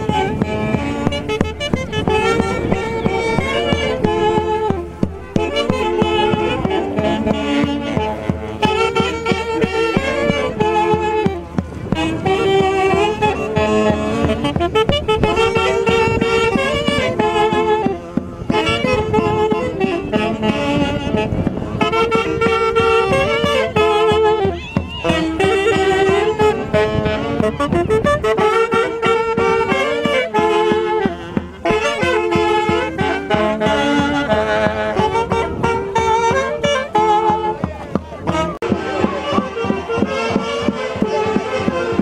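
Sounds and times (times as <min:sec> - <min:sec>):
saxophones playing melody: 0:00.0 - 0:42.0
steady drumbeat: 0:00.0 - 0:42.0.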